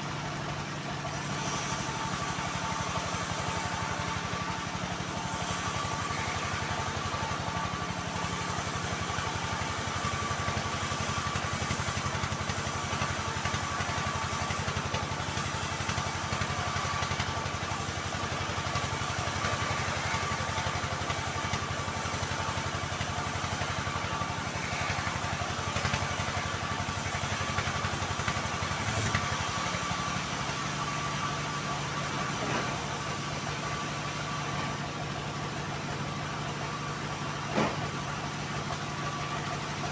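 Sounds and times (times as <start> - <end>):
bandsaw mill cutting a log: 0.0 - 39.9.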